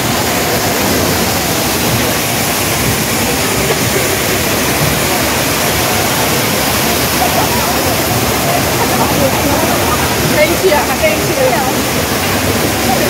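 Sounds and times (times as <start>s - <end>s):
indoor waterfall rushing: 0.0s - 13.0s.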